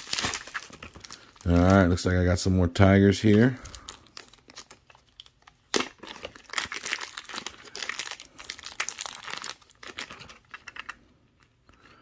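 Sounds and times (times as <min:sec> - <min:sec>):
plastic wrapping crinkling: 0:00.0 - 0:02.4, 0:03.0 - 0:11.0.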